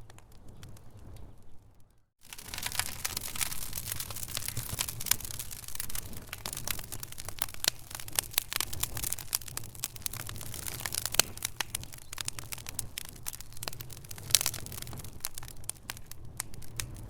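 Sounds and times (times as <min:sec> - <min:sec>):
low rumble of burning: 0:00.0 - 0:17.0
wood fire crackling: 0:00.0 - 0:17.0.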